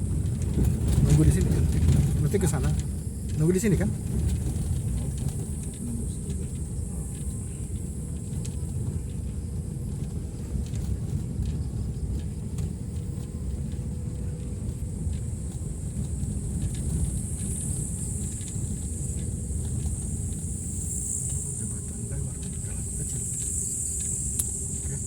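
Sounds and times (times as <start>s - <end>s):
high insect drone: 0.0s - 25.0s
motorbike engine and wind rumble: 0.0s - 25.0s.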